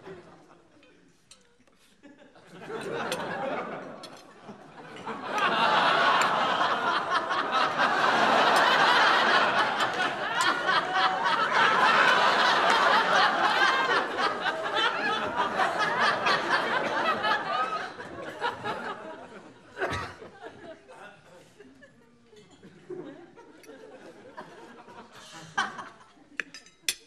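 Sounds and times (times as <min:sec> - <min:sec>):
studio audience laughing: 0:01.8 - 0:26.4.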